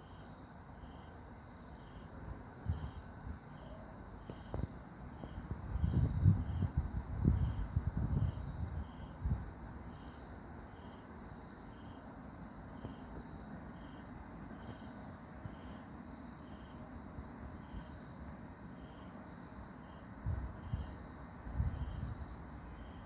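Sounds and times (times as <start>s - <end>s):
crickets chirping: 0.0s - 23.0s
faint insect trill: 0.0s - 23.0s.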